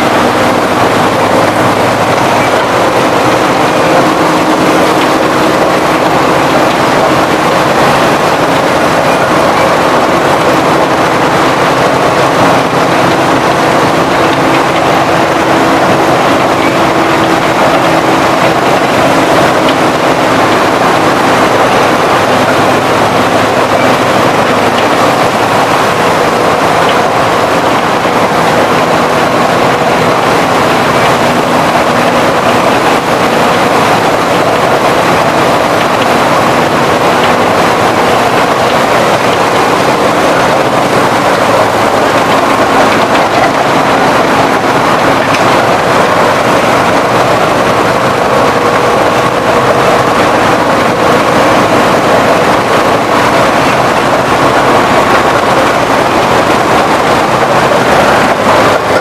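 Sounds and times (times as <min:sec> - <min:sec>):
crushing mill machinery din: 0:00.0 - 0:59.0.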